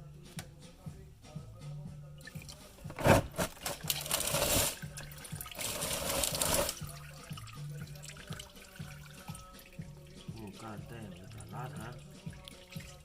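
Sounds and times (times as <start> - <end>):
oil gushing into pan: 2.3 - 13.0.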